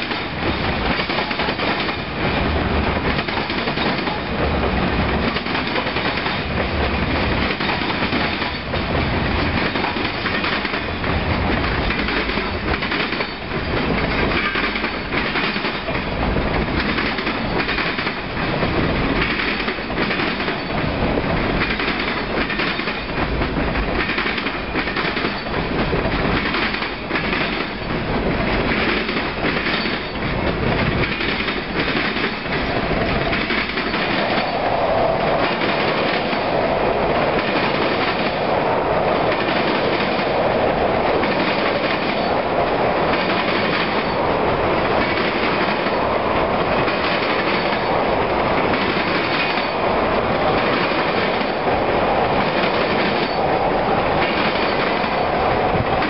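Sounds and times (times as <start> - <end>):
wheels clicking over rail joints: 0.0 - 56.0.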